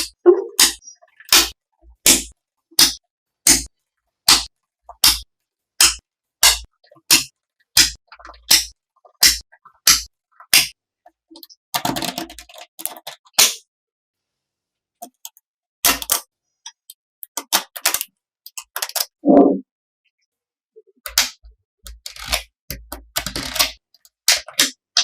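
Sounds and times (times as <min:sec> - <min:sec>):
clicks and knocks of small parts: 0:00.0 - 0:13.7, 0:15.0 - 0:19.2, 0:21.0 - 0:25.0.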